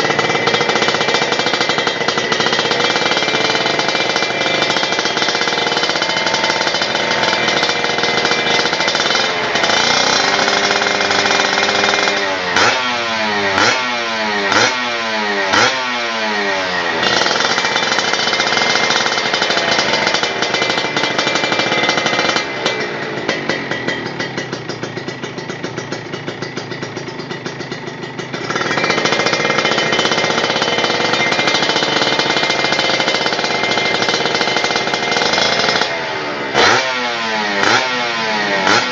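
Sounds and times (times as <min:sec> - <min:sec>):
engine idling and revving: 0:00.0 - 0:38.9.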